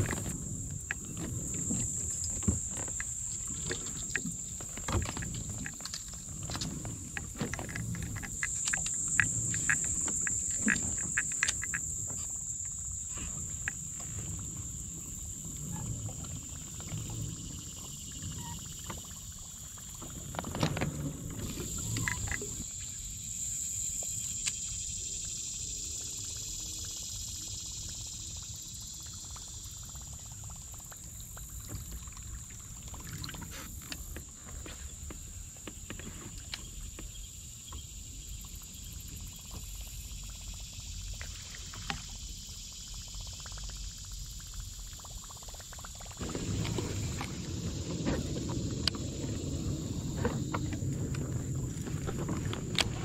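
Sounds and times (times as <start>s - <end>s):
water and hull rumble: 0.0s - 53.0s.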